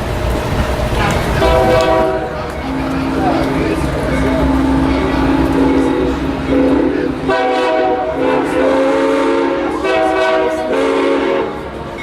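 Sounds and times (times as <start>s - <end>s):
locomotive air horn blasts: 1.4s - 12.0s.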